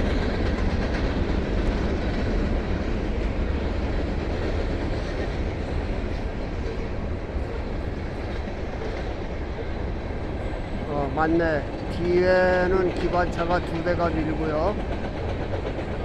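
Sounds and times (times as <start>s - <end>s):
freight train wheels rumbling on rail: 0.0s - 16.0s.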